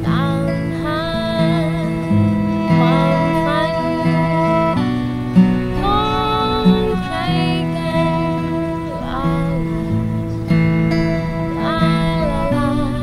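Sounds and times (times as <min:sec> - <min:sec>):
strummed acoustic guitar: 0:00.0 - 0:13.0
violin gliding lines: 0:00.0 - 0:13.0
woman singing: 0:00.0 - 0:13.0.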